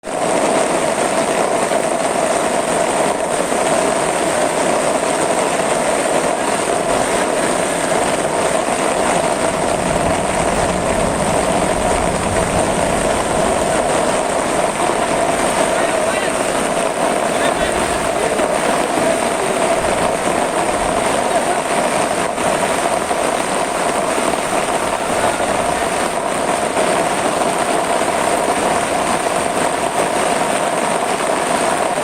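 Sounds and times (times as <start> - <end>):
floodwater rushing: 0.0 - 32.0.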